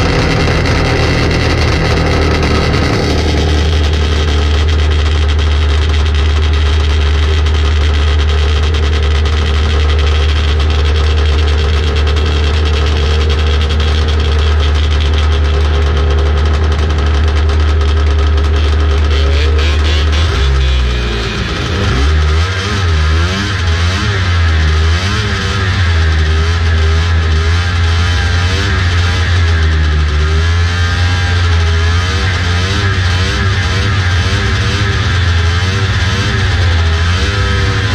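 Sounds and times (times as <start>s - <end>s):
snowmobile engines idling: 0.0s - 37.9s.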